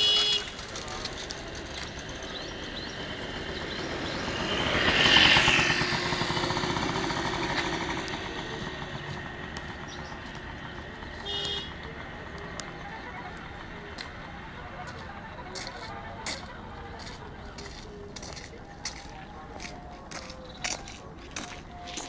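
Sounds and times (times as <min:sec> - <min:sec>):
vehicle engine passing: 0:00.0 - 0:21.2.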